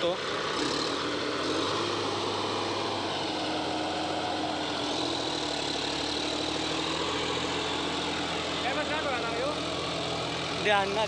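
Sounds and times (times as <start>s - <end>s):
diesel tractor engine under load: 0.0s - 11.0s.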